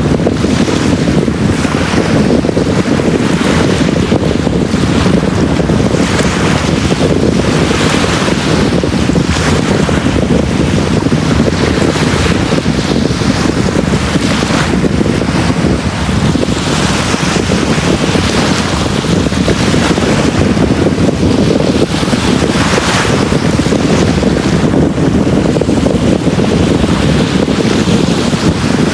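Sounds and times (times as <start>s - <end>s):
sea waves washing onto beach: 0.0s - 28.9s.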